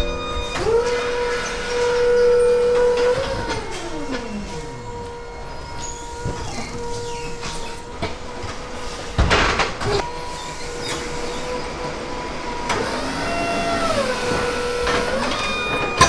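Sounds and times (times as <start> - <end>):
forklift mechanical whine: 0.0 - 16.0.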